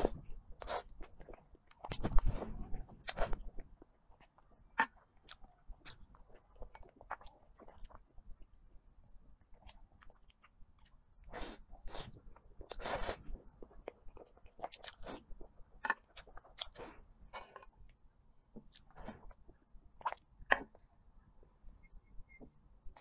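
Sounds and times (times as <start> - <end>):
person chewing cake: 0.0 - 21.8.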